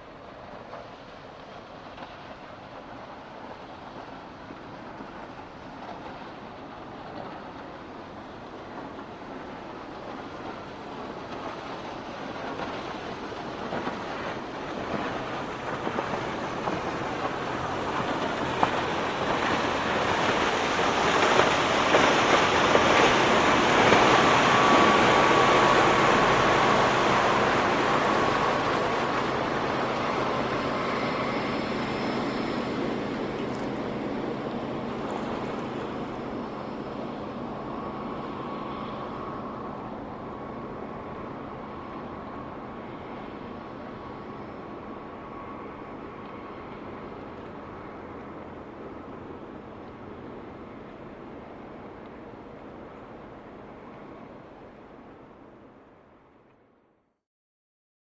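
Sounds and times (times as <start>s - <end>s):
water wash: 0.0s - 55.2s
motorboat engine passing: 0.0s - 56.1s.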